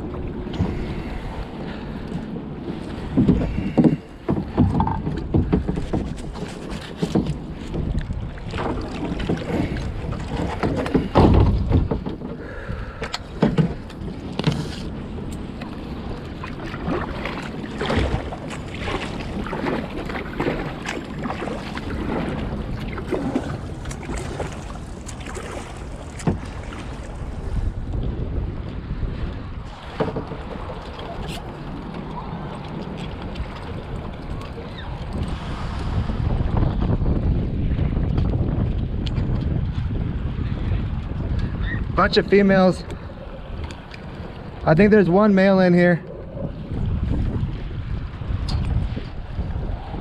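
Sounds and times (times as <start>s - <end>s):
water sloshing: 0.0s - 28.1s, 28.7s - 36.5s, 42.1s - 50.0s
knocks and splashes around kayak: 0.0s - 50.0s
wind buffeting microphone: 0.0s - 50.0s.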